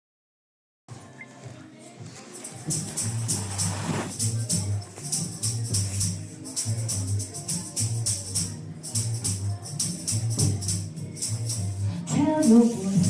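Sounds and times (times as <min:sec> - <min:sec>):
bass guitar groove: 0:00.9 - 0:13.0
shaker rattle: 0:01.0 - 0:13.0.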